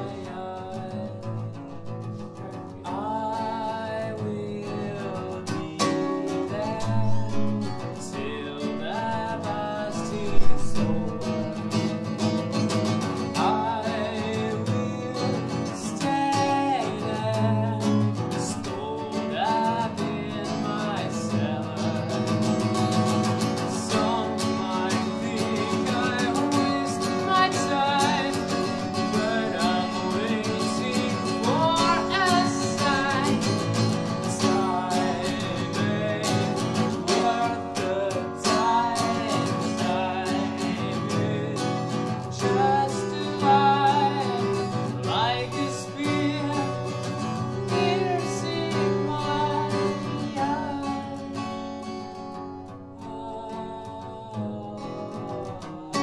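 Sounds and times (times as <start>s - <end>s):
man singing: 0.0s - 52.3s, 52.9s - 56.0s
strummed acoustic guitar: 0.0s - 56.0s.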